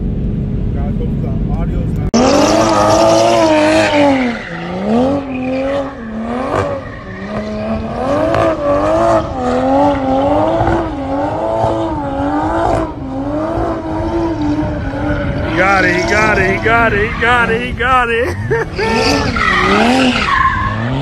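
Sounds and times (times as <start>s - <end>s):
tires spinning: 1.7s - 21.0s
car engine revving high: 1.8s - 21.0s.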